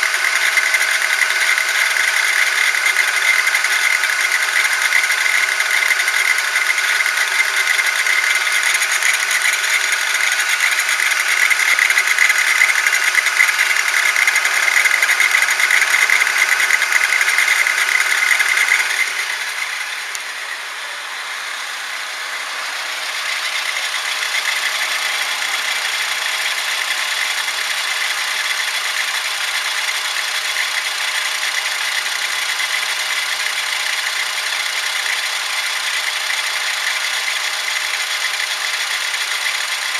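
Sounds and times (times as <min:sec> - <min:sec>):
high-pitched steering noise: 0:00.0 - 0:32.8.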